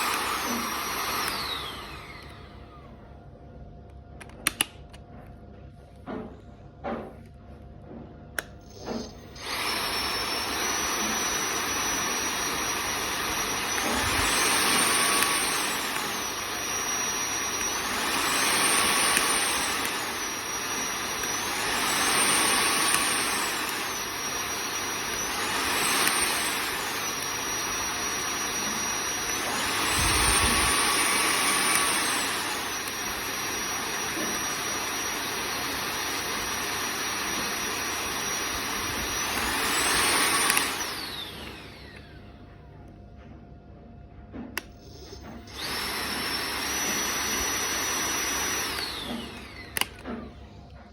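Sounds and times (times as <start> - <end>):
vacuum cleaner surging whine: 0.0 - 4.8, 7.9 - 43.4, 44.2 - 50.9.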